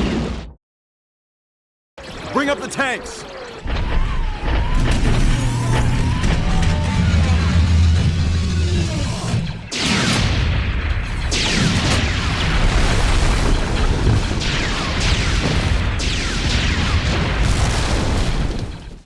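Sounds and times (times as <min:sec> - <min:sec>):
rumble of explosions: 0:02.2 - 0:19.0.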